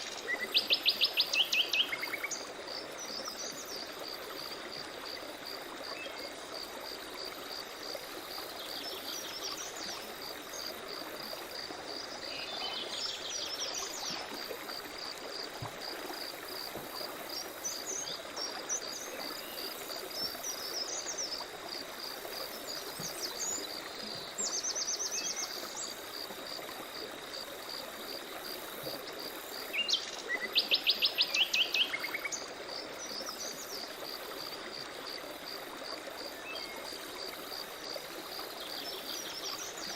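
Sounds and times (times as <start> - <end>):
forest stream running: 0.0 - 39.9.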